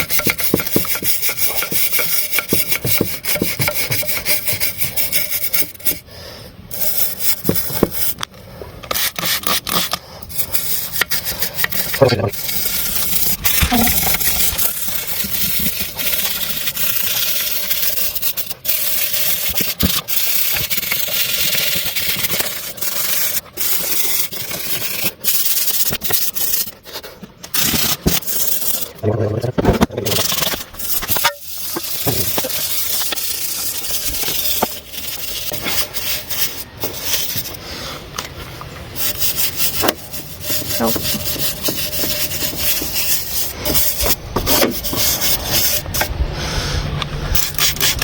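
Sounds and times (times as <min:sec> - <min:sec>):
abrasive scrubbing on metal: 0:00.0 - 0:06.1, 0:08.9 - 0:37.9, 0:38.8 - 0:46.2, 0:47.3 - 0:48.0.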